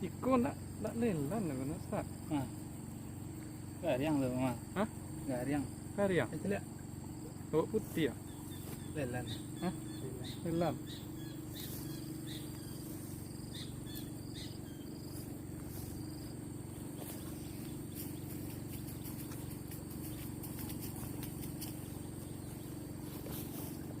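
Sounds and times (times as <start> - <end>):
insects shrilling: 0.0 - 24.0.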